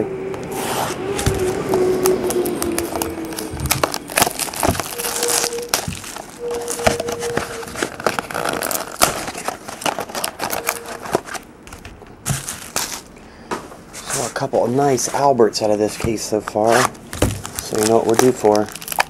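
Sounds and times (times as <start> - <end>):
cardboard rustling: 0.5 - 13.1, 13.7 - 19.0
plastic wrapping crinkling and tearing: 0.6 - 13.2, 14.1 - 19.0.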